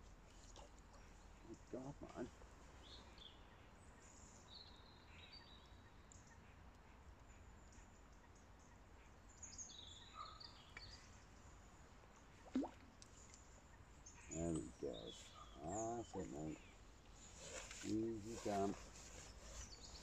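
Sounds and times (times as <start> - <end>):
faint bird chirps: 0.3 - 11.6, 12.2 - 20.0.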